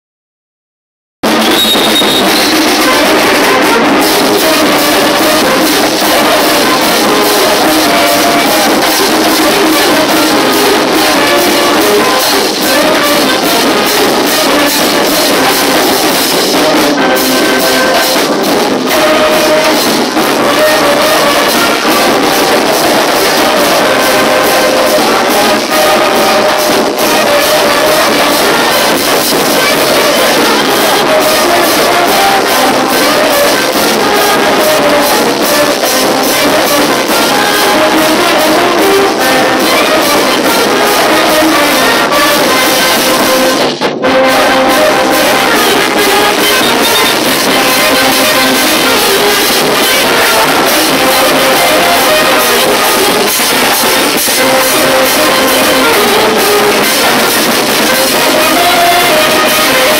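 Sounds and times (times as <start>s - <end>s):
street brass band playing: 1.2s - 59.9s.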